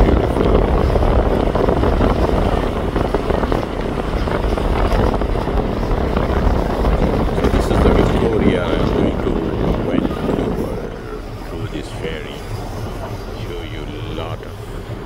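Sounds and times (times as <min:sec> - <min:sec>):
ferry engines and wind roar: 0:00.0 - 0:15.0.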